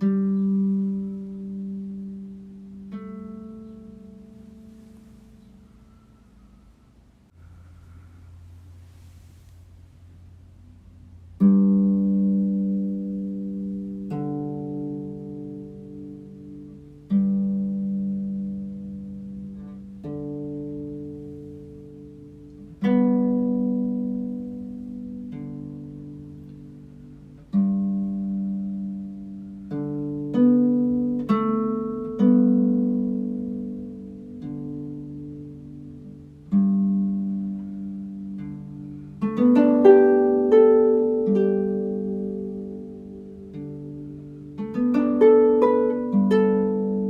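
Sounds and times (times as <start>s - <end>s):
harp plucked chords: 0.0s - 6.5s, 10.3s - 47.0s.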